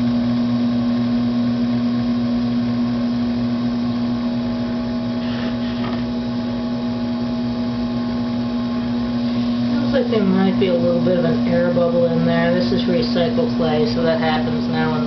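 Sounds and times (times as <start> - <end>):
potter's wheel humming: 0.0 - 15.0.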